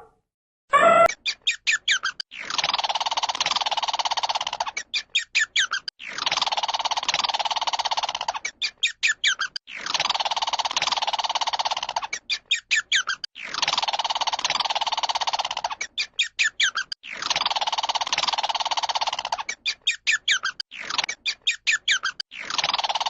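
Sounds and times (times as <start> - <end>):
raspy rattling animal call: 0.7 - 23.0.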